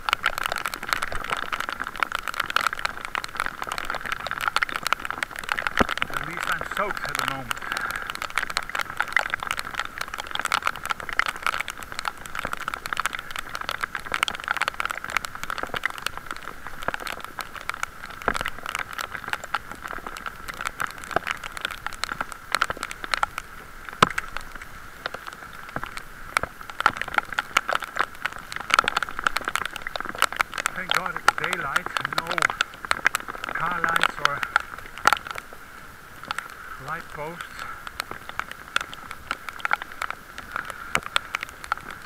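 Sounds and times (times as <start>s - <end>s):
muffled hiss: 0.0s - 42.0s
raindrops tapping on plastic case: 0.0s - 42.0s.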